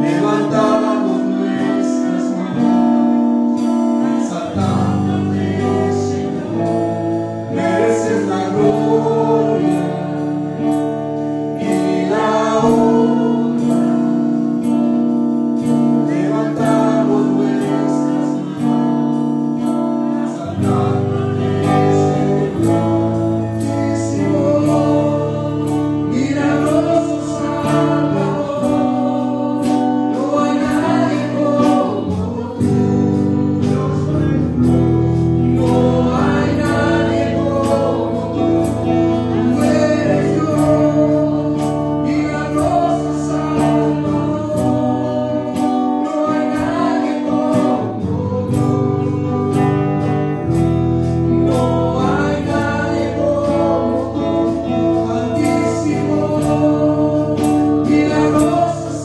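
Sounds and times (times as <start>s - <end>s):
held keyboard chords: 0.0s - 59.0s
voices singing worship song: 0.0s - 59.0s.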